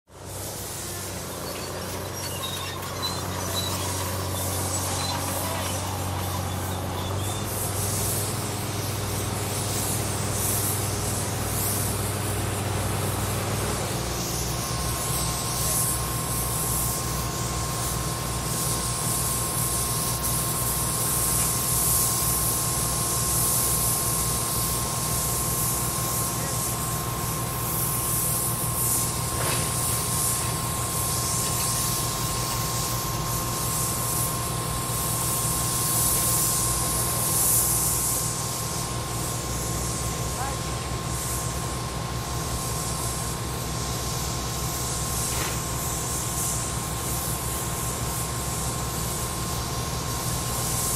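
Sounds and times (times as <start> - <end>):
heavy machinery engines running: 0.1 - 50.9
hiss: 0.1 - 50.9
thin steady whine: 0.1 - 50.9.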